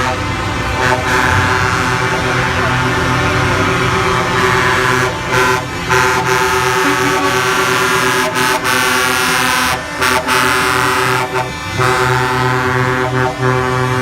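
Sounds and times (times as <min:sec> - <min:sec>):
deeper horn: 0:00.0 - 0:14.0
truck air horns blasting: 0:00.0 - 0:14.0.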